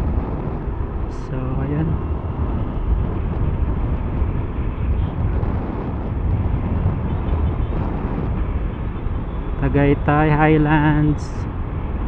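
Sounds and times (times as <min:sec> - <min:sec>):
scooter running and road noise: 0:00.0 - 0:12.0
wind on microphone: 0:00.0 - 0:12.0.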